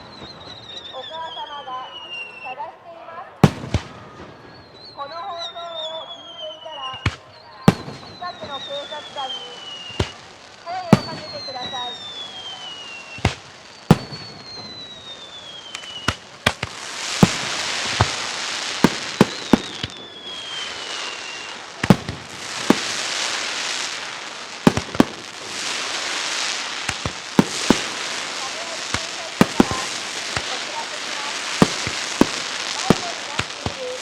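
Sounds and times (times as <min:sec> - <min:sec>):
fireworks bursting bangs: 0:00.0 - 0:02.6, 0:03.3 - 0:34.0
whistling fireworks shells: 0:00.0 - 0:02.6, 0:03.4 - 0:34.0
crackling fireworks hiss: 0:00.0 - 0:34.0.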